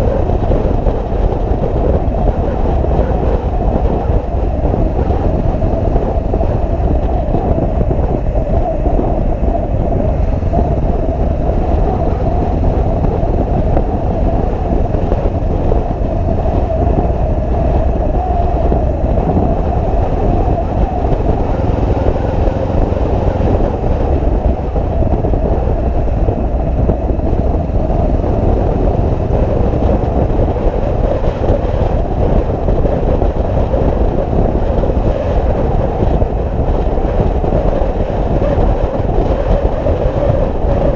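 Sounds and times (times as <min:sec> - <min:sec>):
motorcycle engine and road noise: 0:00.0 - 0:40.9.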